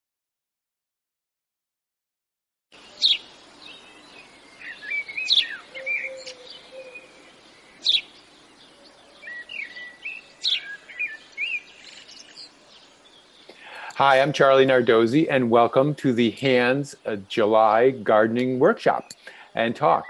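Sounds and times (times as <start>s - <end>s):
birds chirping and whistling: 2.8s - 15.2s, 16.2s - 20.0s.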